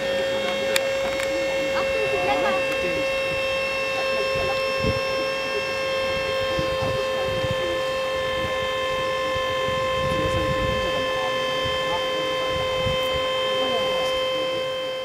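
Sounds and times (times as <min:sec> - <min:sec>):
hydraulic drive high whine: 0:00.0 - 0:15.0.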